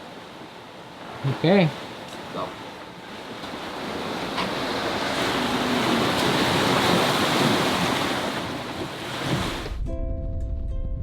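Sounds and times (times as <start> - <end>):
sea waves rushing: 0.0 - 9.8.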